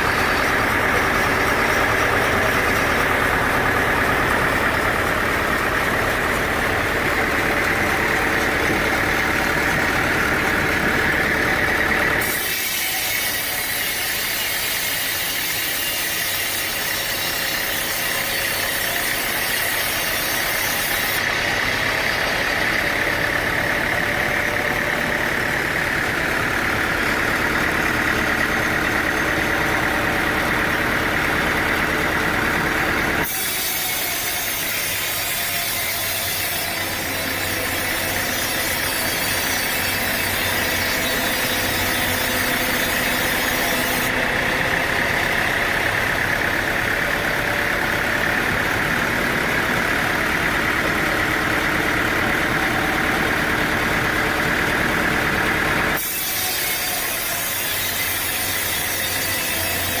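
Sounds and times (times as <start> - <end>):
saw cutting through log: 0.0 - 60.0
sawmill machinery running: 0.0 - 60.0.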